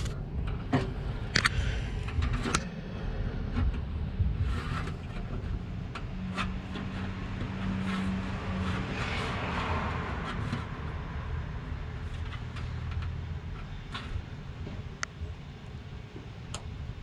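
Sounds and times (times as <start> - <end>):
steady hum: 0.0 - 17.0
vehicle engine rumbling: 0.0 - 17.0.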